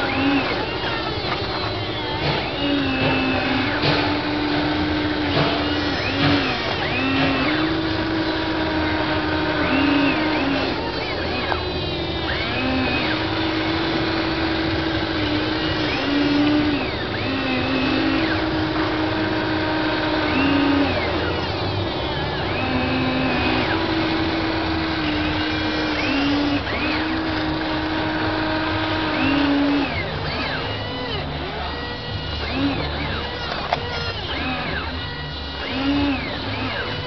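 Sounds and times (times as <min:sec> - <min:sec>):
toy excavator electric motors whining: 0:00.0 - 0:37.0.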